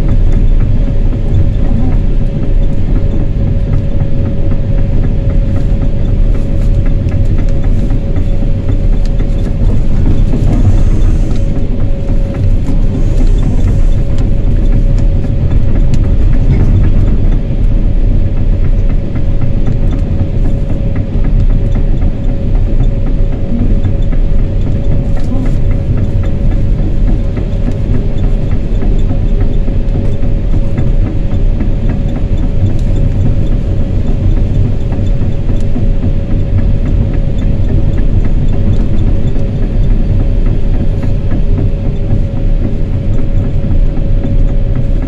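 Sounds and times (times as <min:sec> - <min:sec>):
diesel engine rumble and whine: 0:00.0 - 0:45.0.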